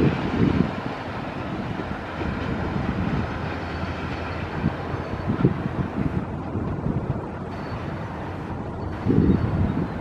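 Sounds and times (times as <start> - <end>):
low vehicle rumble: 0.0 - 10.0
wind buffeting microphone: 0.0 - 10.0.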